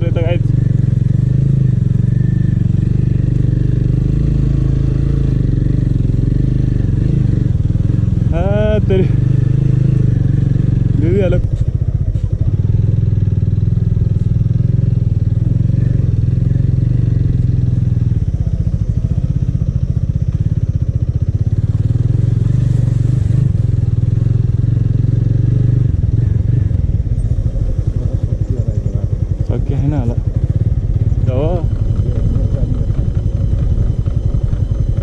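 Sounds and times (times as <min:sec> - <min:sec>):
small motorcycle engine idling: 0:00.0 - 0:35.0.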